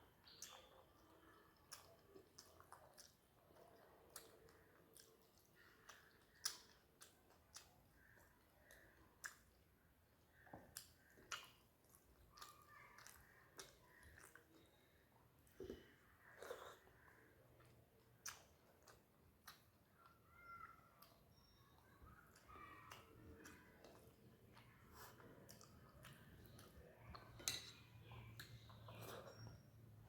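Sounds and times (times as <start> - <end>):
person chewing: 0.2 - 20.2, 21.0 - 30.0.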